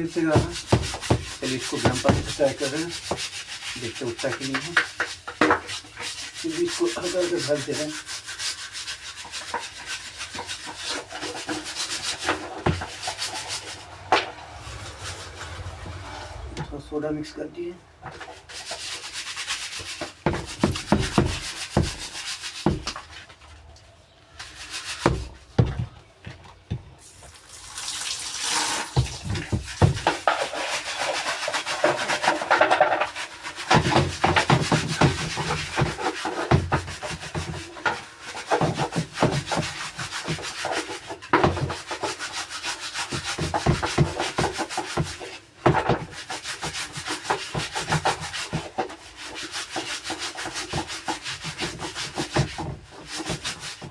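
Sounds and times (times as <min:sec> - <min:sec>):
hand scrubbing washing machine: 0:00.0 - 0:16.5, 0:18.2 - 0:23.1, 0:27.4 - 0:53.9.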